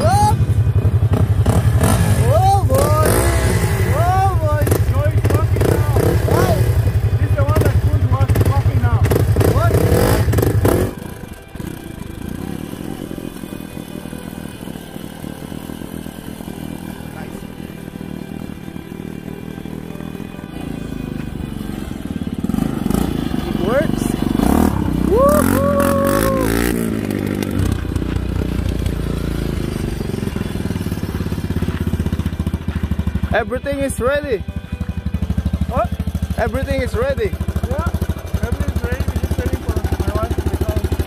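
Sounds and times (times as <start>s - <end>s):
atv engine idling: 0.0s - 41.0s
dirt bike engine running: 0.0s - 41.0s.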